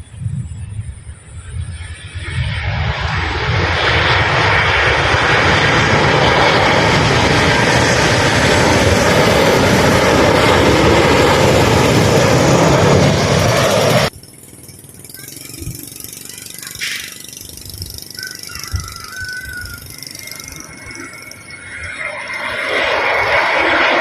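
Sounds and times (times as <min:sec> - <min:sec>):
airliner engine roar: 0:00.0 - 0:24.0.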